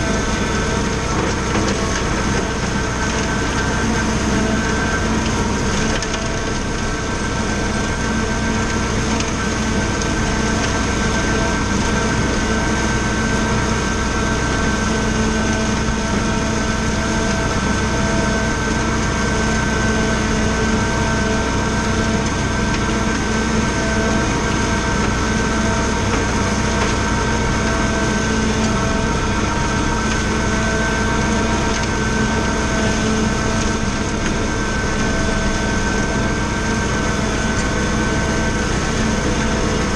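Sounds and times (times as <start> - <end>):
mower high whine: 0.0 - 39.9
tractor diesel engine running: 0.0 - 39.9.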